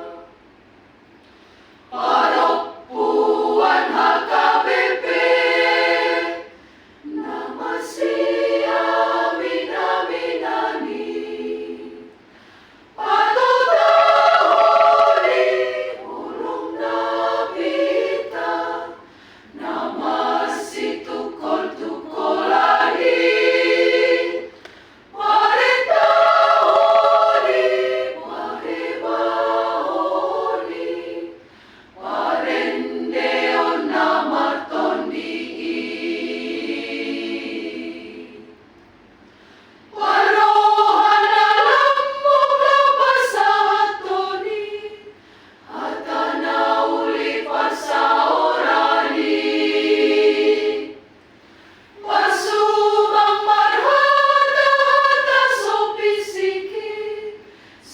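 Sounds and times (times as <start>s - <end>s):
choir singing unaccompanied: 0.0s - 0.4s, 1.9s - 12.3s, 12.9s - 38.8s, 39.9s - 51.2s, 51.9s - 57.9s.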